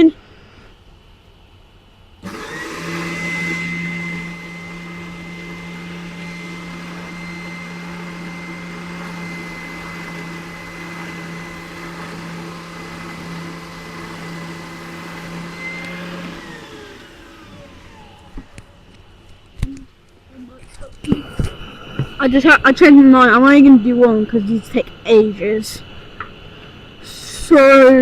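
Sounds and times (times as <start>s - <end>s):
vacuum whining and winding down: 2.2s - 28.0s.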